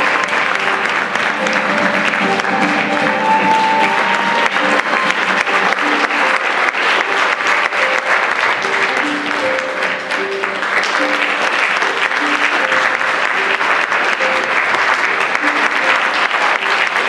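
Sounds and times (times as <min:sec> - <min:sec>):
audience clapping: 0:00.0 - 0:17.0
music with held notes: 0:00.0 - 0:17.0.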